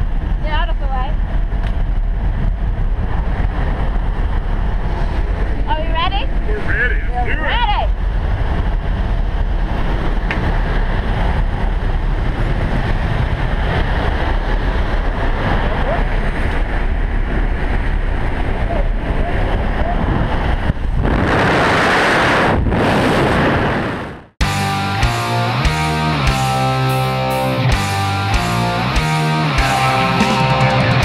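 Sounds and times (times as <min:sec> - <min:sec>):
airplane engine noise: 0:00.0 - 0:31.0
wind rushing: 0:00.0 - 0:31.0.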